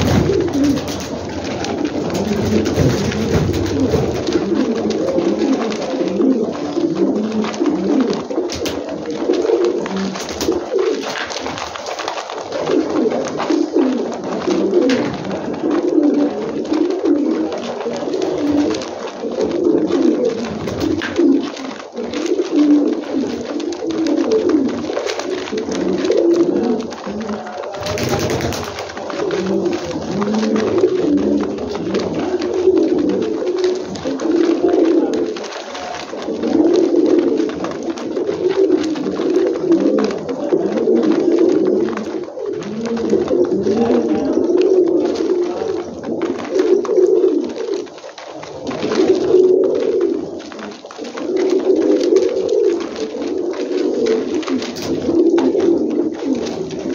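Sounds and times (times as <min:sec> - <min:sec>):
beaks pecking grain: 0:00.0 - 0:56.9
pigeons cooing: 0:00.0 - 0:56.9.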